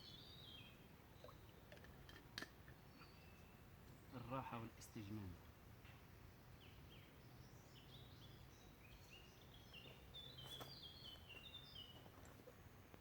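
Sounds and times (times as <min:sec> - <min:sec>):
songbird singing faintly: 0:00.0 - 0:13.0.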